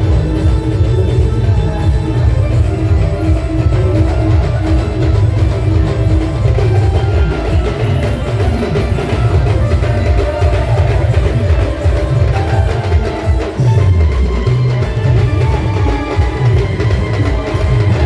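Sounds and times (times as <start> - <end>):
heavy driving drum beats: 0.0 - 18.0
loud procession band music: 0.0 - 18.0.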